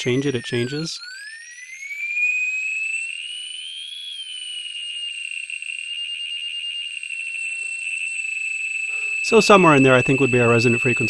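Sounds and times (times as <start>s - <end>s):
piezo buzzer shrill tone: 0.0s - 11.0s.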